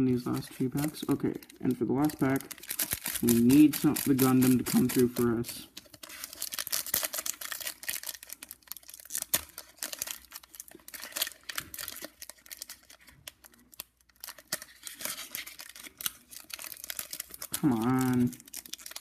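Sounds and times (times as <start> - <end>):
cards rustling: 0.1 - 19.0
foil pack crinkling and tearing: 0.1 - 19.0.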